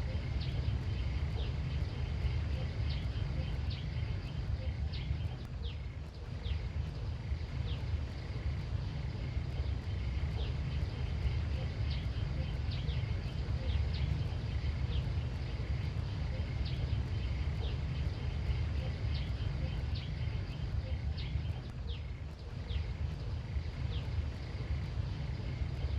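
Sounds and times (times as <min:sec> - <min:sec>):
low rumble: 0:00.0 - 0:25.9.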